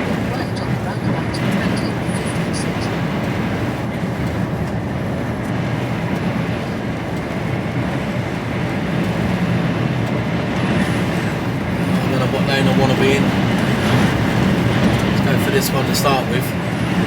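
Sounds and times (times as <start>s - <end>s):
lorry engine drone: 0.0s - 17.0s
road noise: 0.0s - 17.0s.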